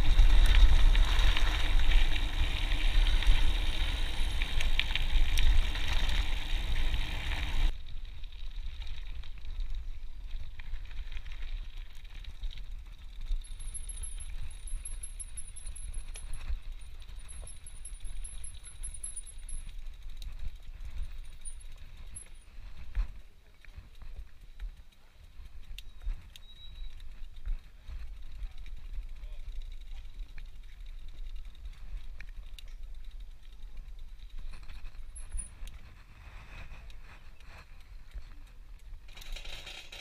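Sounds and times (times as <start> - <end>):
bike freewheel hub ticking: 0.0 - 23.0, 23.6 - 35.8
wind rumbling on microphone: 0.0 - 39.2
bike tyres rattling over gravel: 0.0 - 40.0.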